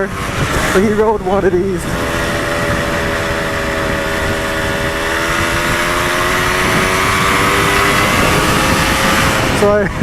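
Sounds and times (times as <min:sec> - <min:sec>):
two-stroke motorcycle engine: 0:00.0 - 0:10.0
wind and road noise: 0:00.0 - 0:10.0.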